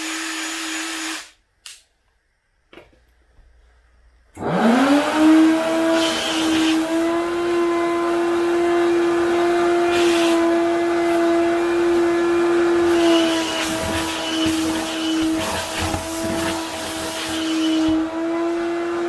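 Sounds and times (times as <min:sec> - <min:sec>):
wet vacuum cleaner running: 0:00.0 - 0:01.3, 0:04.4 - 0:19.0.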